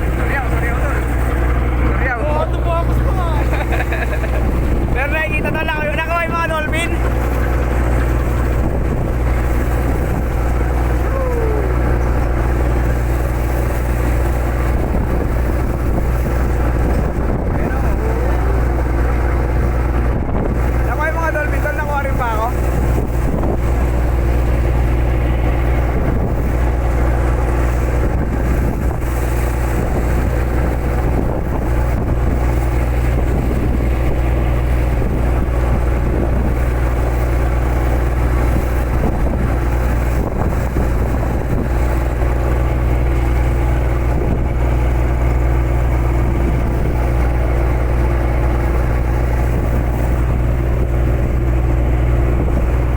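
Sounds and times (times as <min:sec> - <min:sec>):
boat engine droning: 0:00.0 - 0:52.9
water noise: 0:00.0 - 0:52.9
wind: 0:00.0 - 0:52.9.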